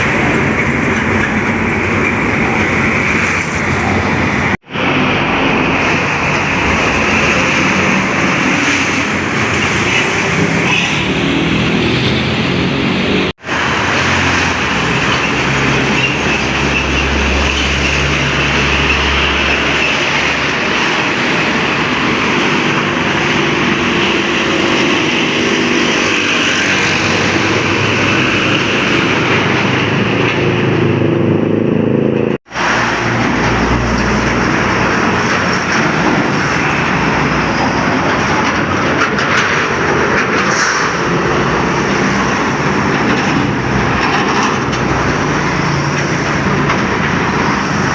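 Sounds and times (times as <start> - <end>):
highway traffic passing: 0.0 - 47.9.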